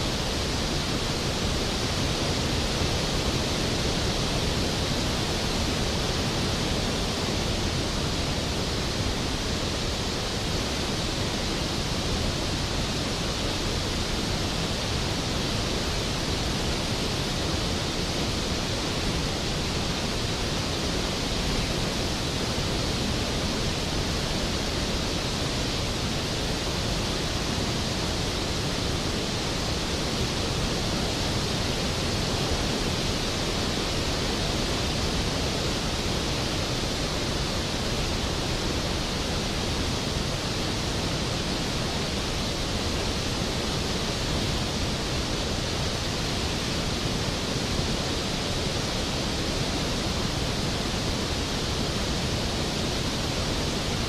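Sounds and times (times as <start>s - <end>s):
waterfall roaring into pool: 0.0s - 54.0s.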